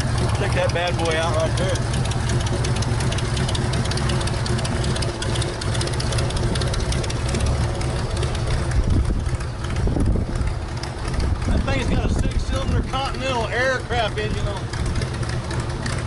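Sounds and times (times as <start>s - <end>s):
airboat engine running: 0.0s - 16.0s.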